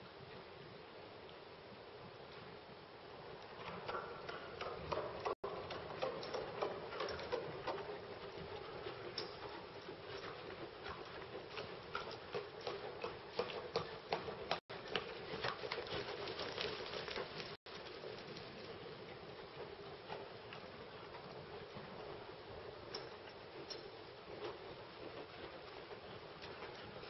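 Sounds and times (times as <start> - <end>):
horse hooves on sand: 0.4 - 27.0.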